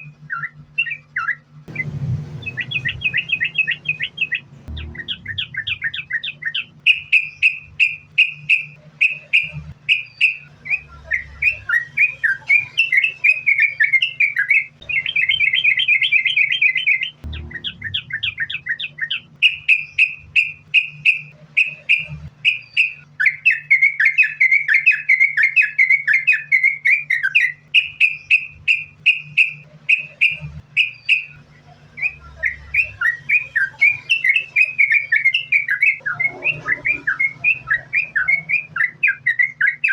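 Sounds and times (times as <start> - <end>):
bird singing whistled notes: 0.0 - 39.9
faint low hum: 0.0 - 39.9.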